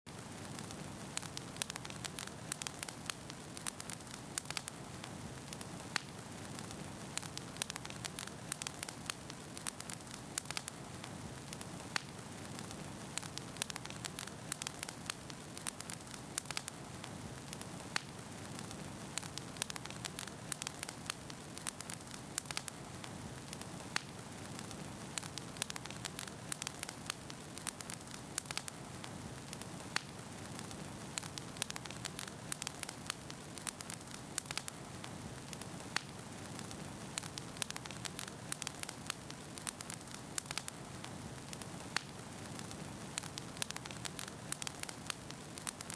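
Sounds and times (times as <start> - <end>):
fire crackling and popping: 0.1 - 45.9
soft hiss and low rumble: 0.1 - 45.9.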